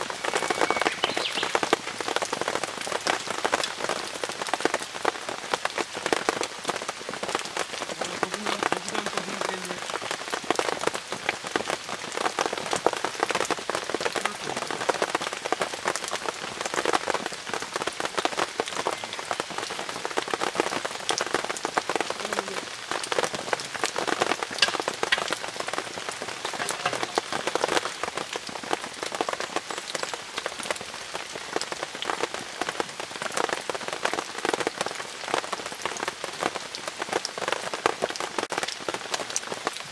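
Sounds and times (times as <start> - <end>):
rain on tent fabric: 0.0 - 39.9.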